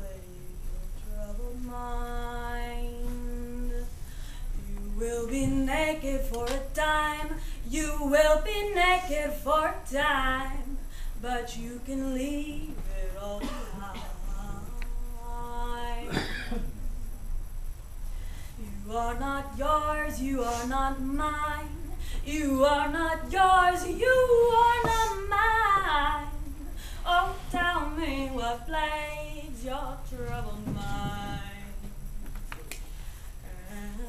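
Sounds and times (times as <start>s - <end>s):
woman singing unaccompanied: 0.0s - 17.1s, 18.6s - 32.5s, 33.3s - 34.0s.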